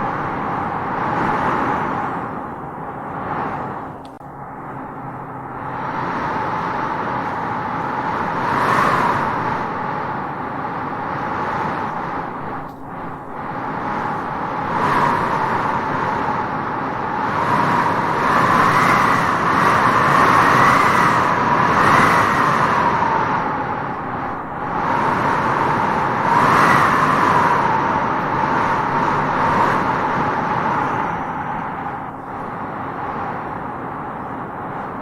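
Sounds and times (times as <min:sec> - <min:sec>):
wind blowing through grass: 0:00.0 - 0:35.0.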